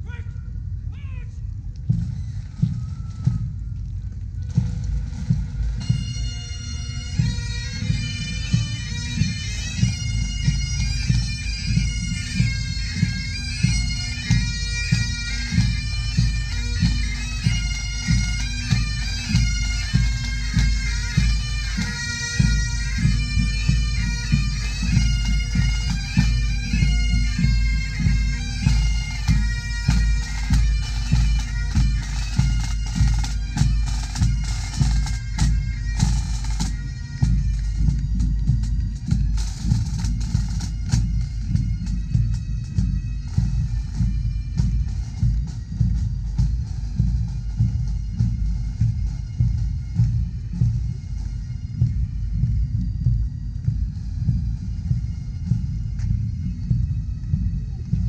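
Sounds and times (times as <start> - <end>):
bagpipes playing drone and melody: 0.0 - 58.0
marching drum beat: 0.0 - 58.0.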